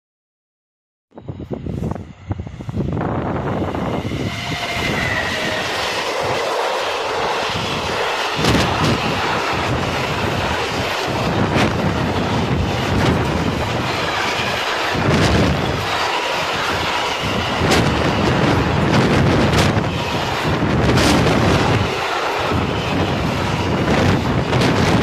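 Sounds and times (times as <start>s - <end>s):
train wheels rumbling on rail: 1.2s - 25.0s
wheels clacking over rail joints: 4.3s - 25.0s.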